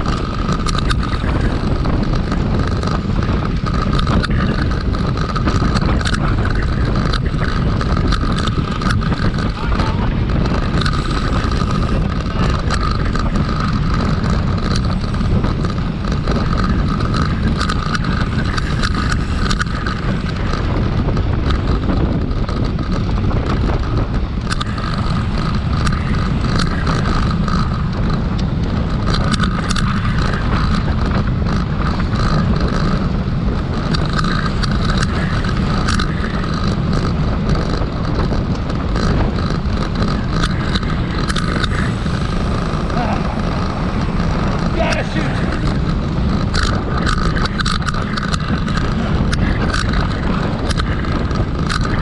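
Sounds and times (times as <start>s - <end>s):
racing bicycles rumbling: 0.0s - 52.0s
sharp clicks: 0.0s - 52.0s.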